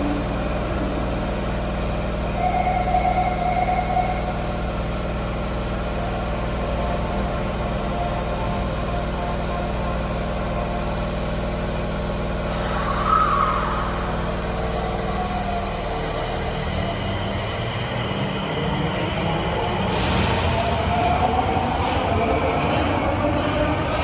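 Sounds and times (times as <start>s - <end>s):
electrical whine: 0.0s - 19.8s
subway train equipment humming: 0.0s - 24.0s.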